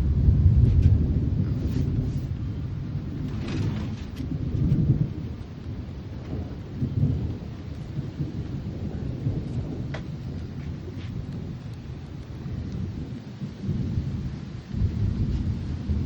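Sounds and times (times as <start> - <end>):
rain hissing: 0.0 - 16.0
thunder rumbling: 0.0 - 16.0.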